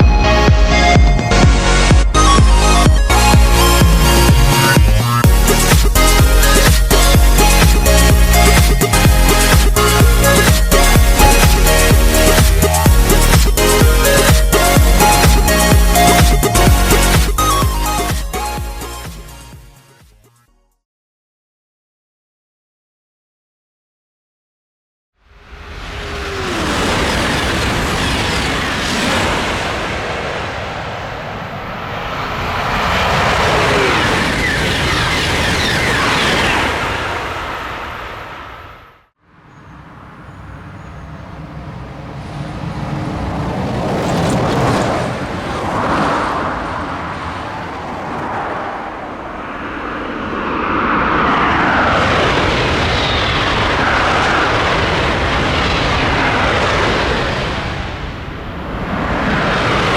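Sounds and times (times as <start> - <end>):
high-speed train passing: 0.0 - 18.0, 25.3 - 59.9.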